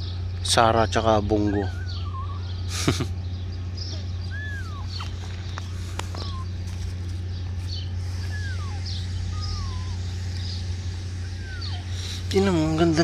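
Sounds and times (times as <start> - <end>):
steady low hum: 0.0 - 13.0
kittens mewing: 1.3 - 13.0.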